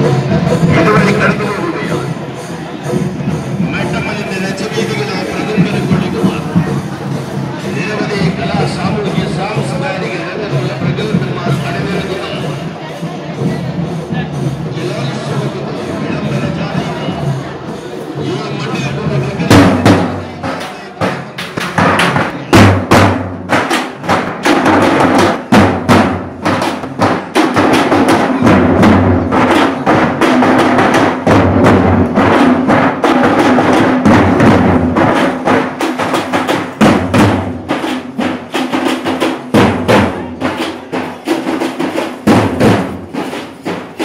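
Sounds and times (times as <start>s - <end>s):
marching bass drums: 0.0s - 44.0s.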